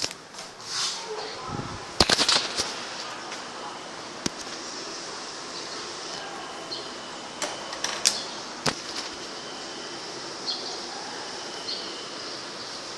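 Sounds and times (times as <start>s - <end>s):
exhaust fan running: 0.0s - 12.9s.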